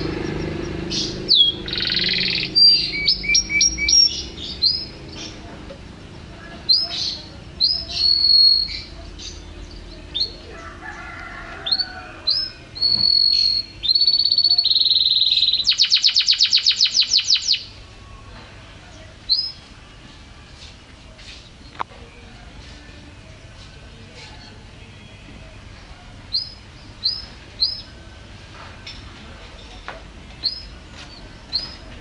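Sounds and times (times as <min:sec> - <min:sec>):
canary singing: 0:00.0 - 0:29.8, 0:30.4 - 0:32.0.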